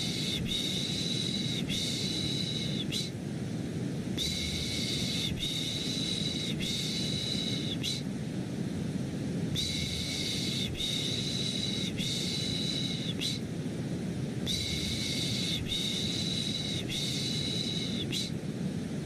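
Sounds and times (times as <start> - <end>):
rumbling white noise: 0.0 - 19.0.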